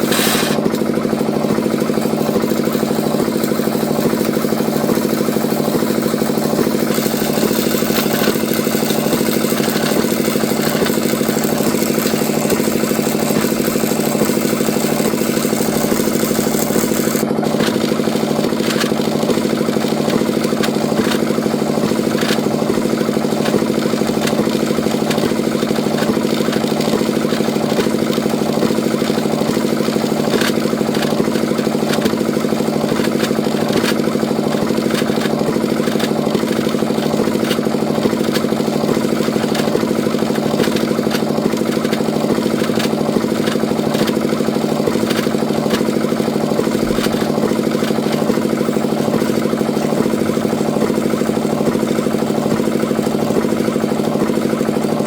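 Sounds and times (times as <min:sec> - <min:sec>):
small tractor engine running: 0:00.0 - 0:55.0.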